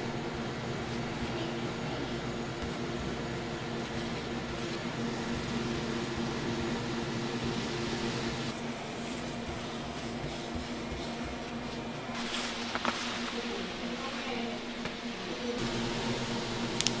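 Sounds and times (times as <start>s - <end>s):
machinery humming: 0.0s - 10.2s, 10.8s - 17.0s.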